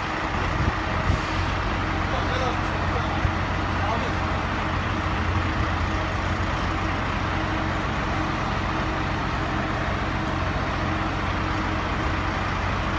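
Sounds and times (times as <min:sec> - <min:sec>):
heavy vehicle engine running: 0:00.0 - 0:12.9.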